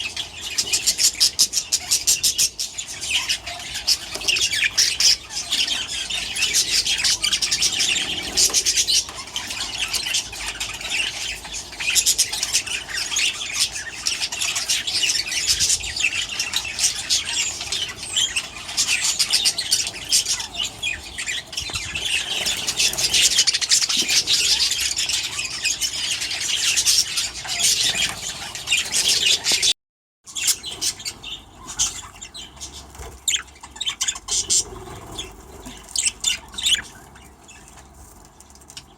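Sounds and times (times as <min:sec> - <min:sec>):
budgerigars chattering and squawking: 0:00.0 - 0:29.7, 0:30.3 - 0:38.9.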